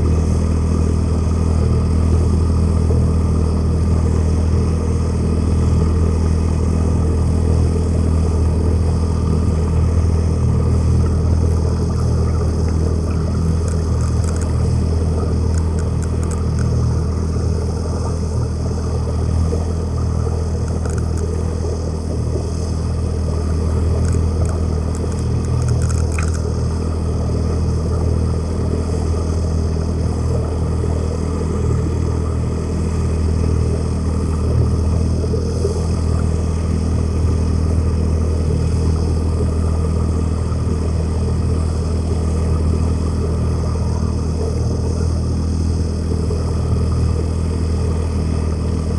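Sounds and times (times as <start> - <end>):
boat motor underwater rumble: 0.0 - 48.9
water rushing: 0.0 - 48.9.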